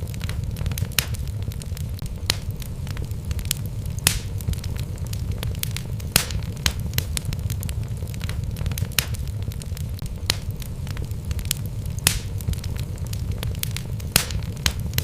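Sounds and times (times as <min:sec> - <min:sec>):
steady low rumble: 0:00.0 - 0:15.0
wood fire crackling and popping: 0:00.0 - 0:15.0.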